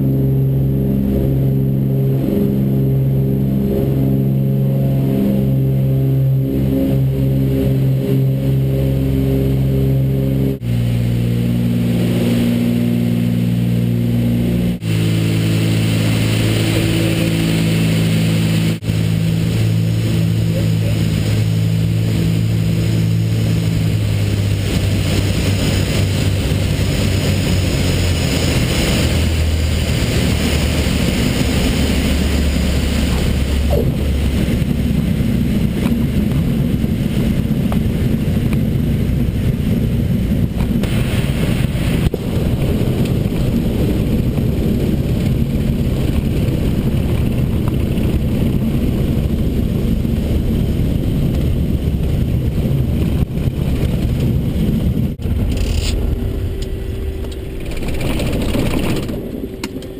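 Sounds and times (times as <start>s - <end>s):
propeller aircraft engines droning: 0.0s - 59.9s
rush of air noise: 0.0s - 59.9s.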